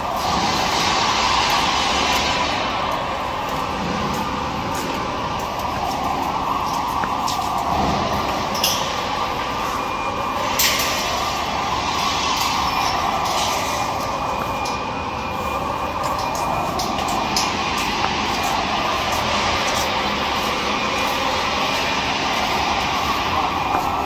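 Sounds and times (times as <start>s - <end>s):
mechanical drone wavering pitch: 0.0s - 24.0s.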